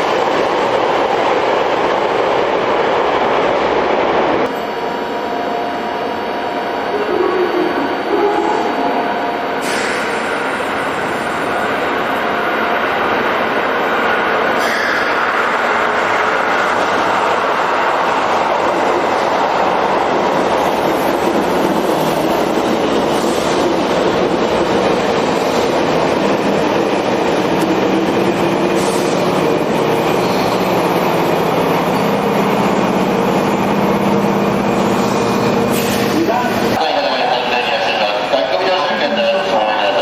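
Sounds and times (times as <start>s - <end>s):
train wheels rumbling on rail: 0.0s - 5.1s, 6.8s - 40.0s.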